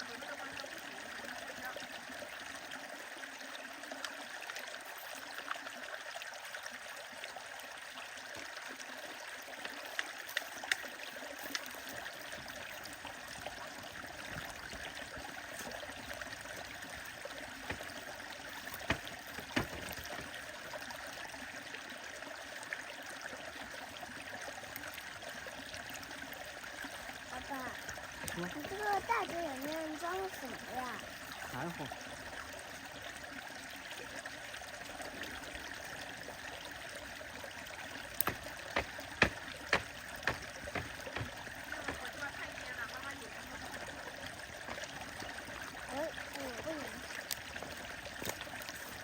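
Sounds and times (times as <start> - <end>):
stream running over rocks: 0.0 - 49.0.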